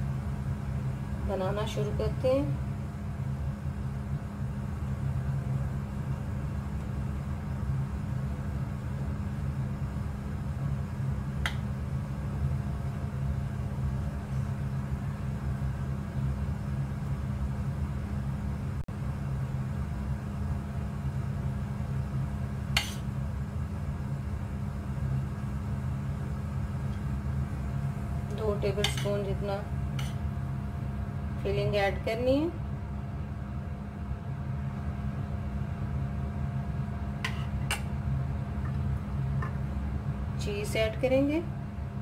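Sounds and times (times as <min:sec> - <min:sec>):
low motor hum: 0:00.0 - 0:42.0.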